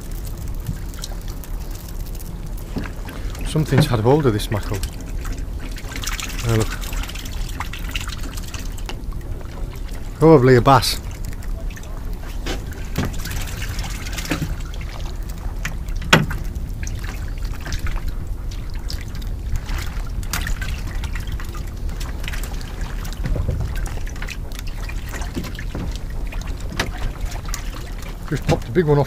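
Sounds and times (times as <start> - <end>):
water lapping against boat hull: 0.0 - 29.0.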